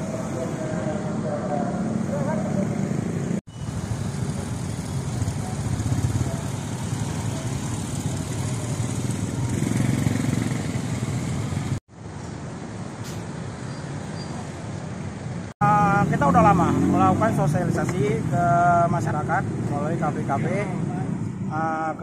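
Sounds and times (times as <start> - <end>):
motorcycles and cars passing: 0.0 - 22.0.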